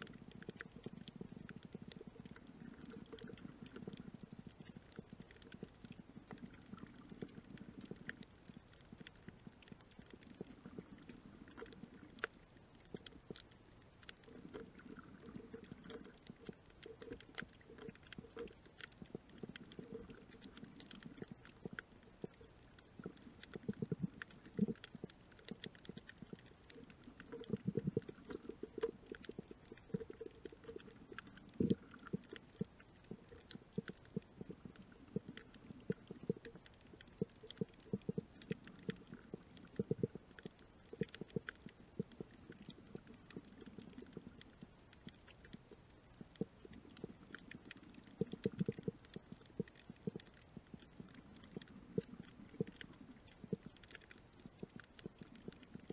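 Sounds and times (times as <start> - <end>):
underwater clicks and crackles: 0.0 - 55.9
underwater water rumbling: 0.0 - 55.9.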